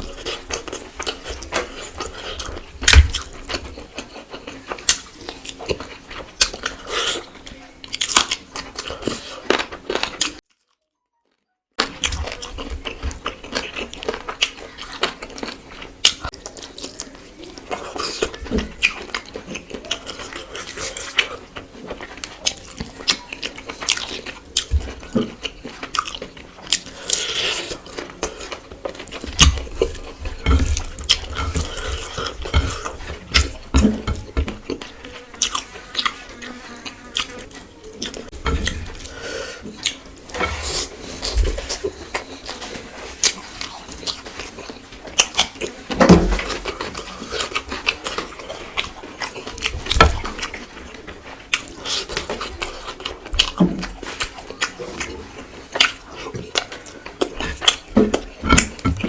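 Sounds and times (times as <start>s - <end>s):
chewing with crisp crunches: 0.0s - 59.0s.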